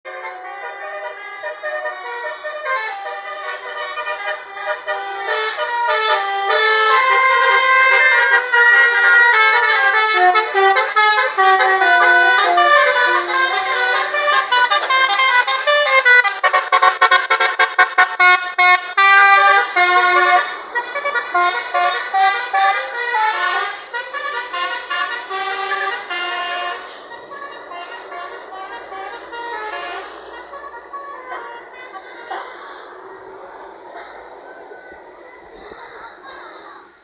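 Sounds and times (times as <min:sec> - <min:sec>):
multi-note bus air horns: 0:00.1 - 0:33.1.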